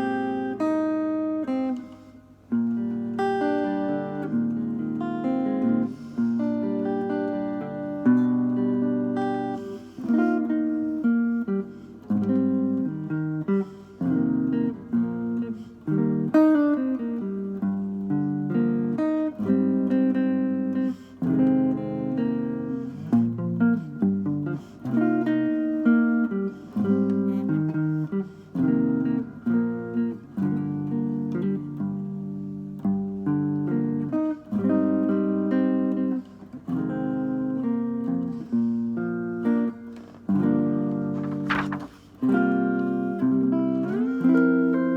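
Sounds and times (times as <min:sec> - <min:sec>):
solo guitar ballad: 0:00.0 - 0:44.9.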